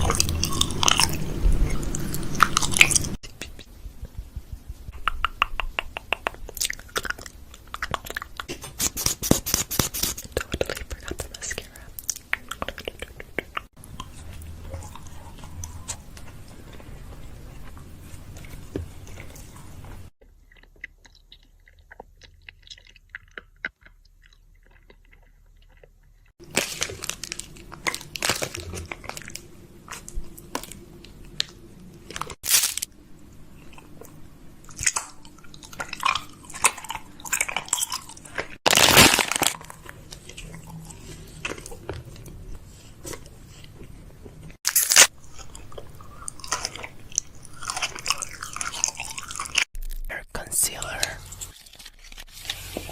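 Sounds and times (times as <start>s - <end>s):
crunching and crackling: 6.2s - 32.9s, 33.6s - 50.5s, 51.2s - 52.9s.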